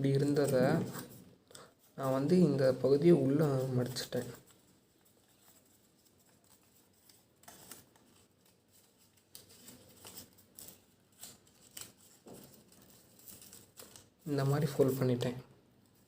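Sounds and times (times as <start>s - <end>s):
paper rustling and crinkling: 0.0s - 1.2s, 1.8s - 16.0s.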